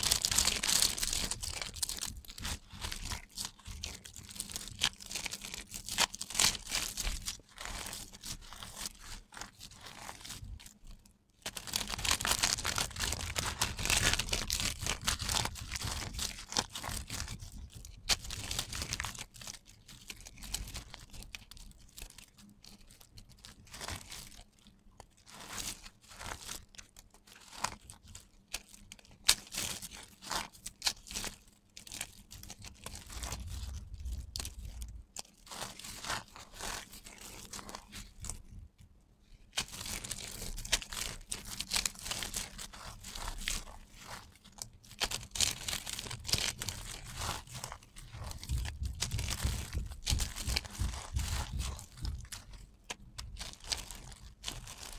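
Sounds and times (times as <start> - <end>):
soap flakes rustling: 0.0 - 38.6, 39.3 - 54.9
dry soap crunching: 0.0 - 54.9.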